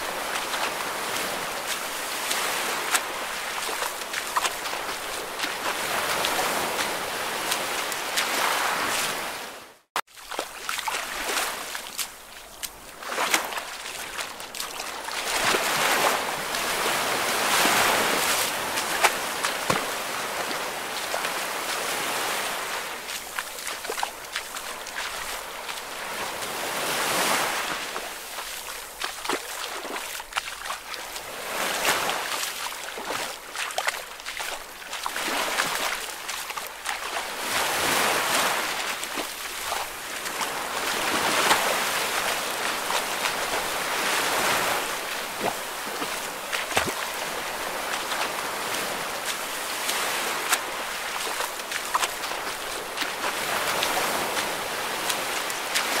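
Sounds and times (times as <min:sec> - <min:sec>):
water waves washing and splashing: 0:00.0 - 0:56.0.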